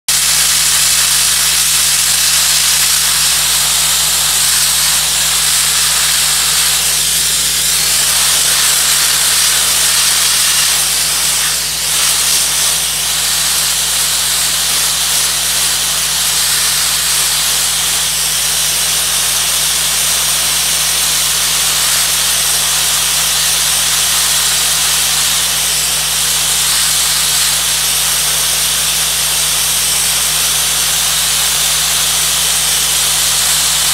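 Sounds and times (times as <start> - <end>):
abrasive blaster loud hiss: 0.1 - 33.9.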